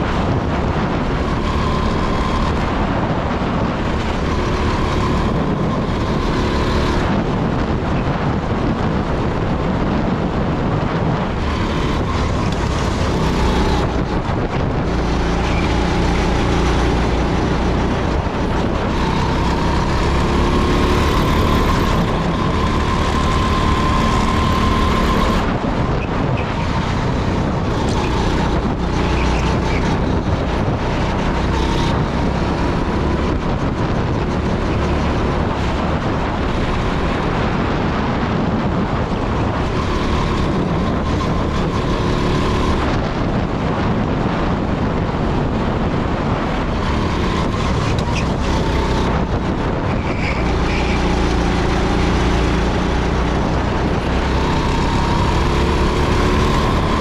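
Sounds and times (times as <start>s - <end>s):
go-kart engine running hard: 0.0s - 57.0s
wind and road noise: 0.0s - 57.0s.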